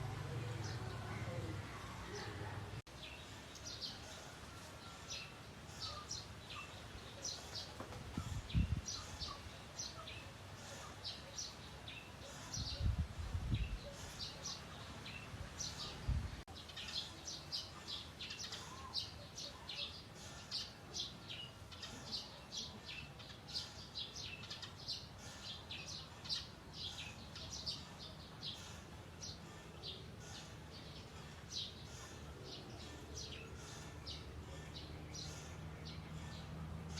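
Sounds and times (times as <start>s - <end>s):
bird chirping: 0.2s - 36.9s.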